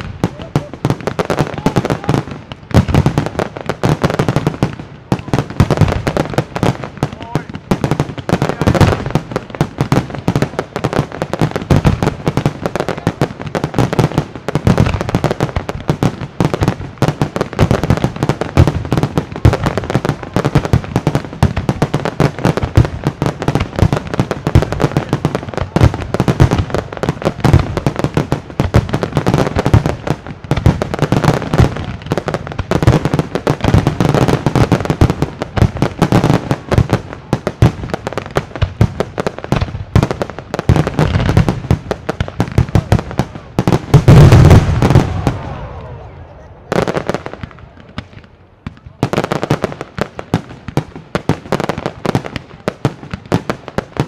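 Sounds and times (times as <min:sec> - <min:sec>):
crackling firework stars: 0:00.0 - 0:54.0.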